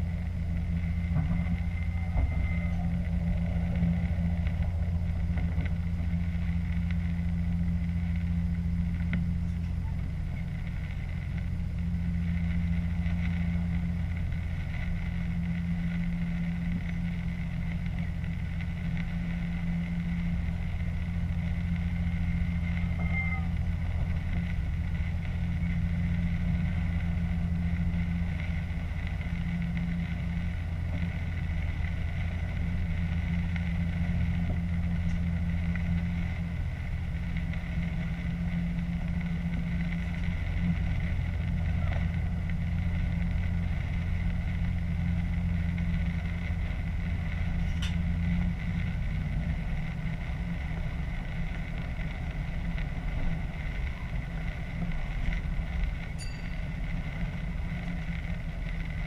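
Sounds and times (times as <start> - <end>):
train engine drone: 0.0 - 59.0.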